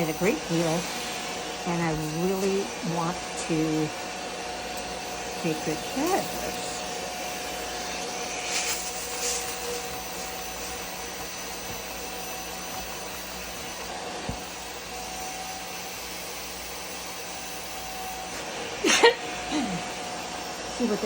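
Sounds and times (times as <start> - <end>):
carpet cleaner suction motor: 0.0 - 21.0.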